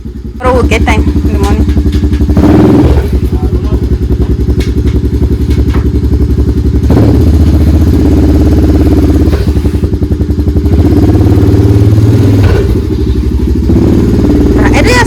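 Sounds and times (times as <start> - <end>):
small vehicle engine running: 0.0 - 15.0.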